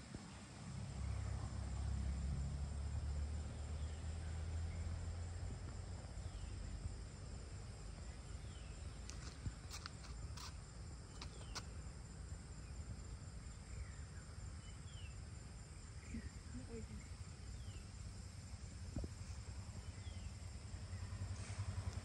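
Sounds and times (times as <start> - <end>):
faint high insect drone: 0.0 - 22.0.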